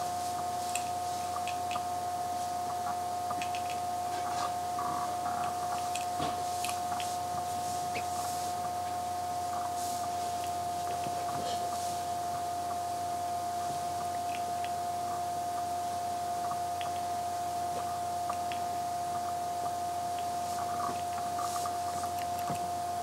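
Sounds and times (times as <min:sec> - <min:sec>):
high-pitched hum: 0:00.0 - 0:23.0.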